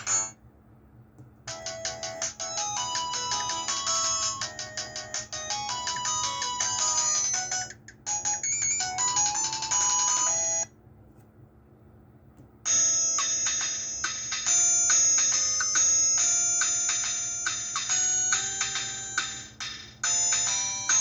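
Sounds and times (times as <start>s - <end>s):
electronic ringtone melody: 1.5s - 10.7s, 12.7s - 21.0s.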